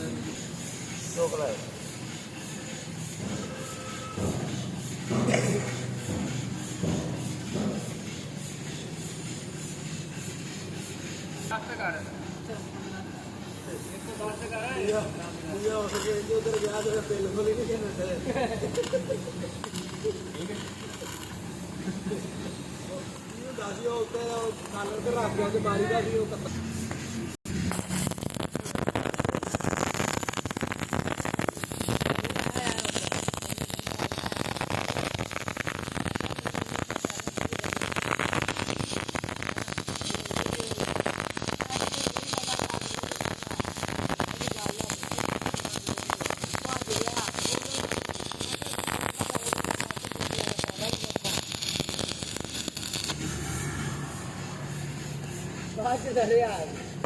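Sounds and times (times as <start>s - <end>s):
welding arc crackling: 0.0s - 57.0s.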